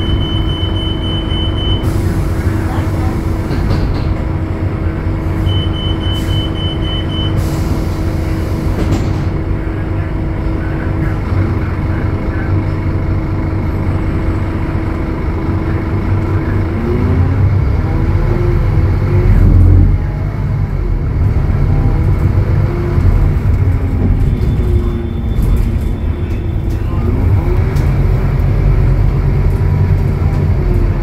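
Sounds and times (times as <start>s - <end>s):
bus diesel engine: 0.0s - 31.0s.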